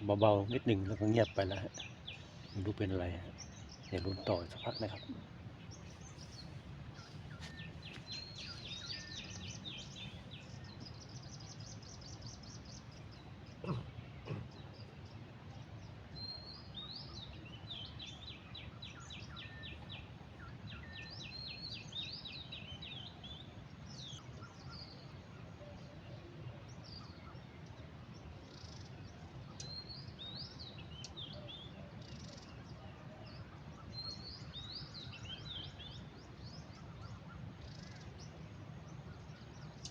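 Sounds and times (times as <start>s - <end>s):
birds trilling and chirping: 0.0s - 39.9s.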